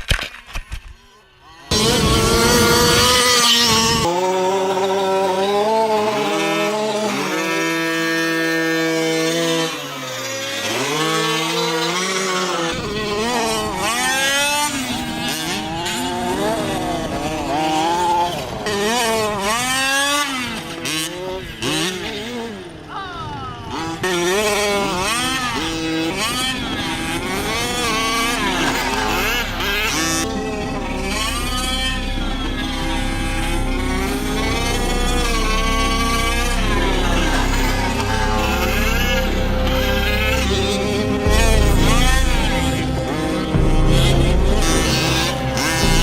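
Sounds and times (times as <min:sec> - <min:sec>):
rc race car motors: 0:00.0 - 0:46.0.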